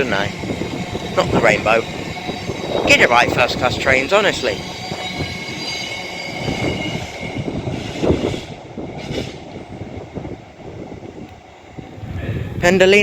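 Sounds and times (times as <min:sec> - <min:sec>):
electric train running on track: 0:00.0 - 0:13.0.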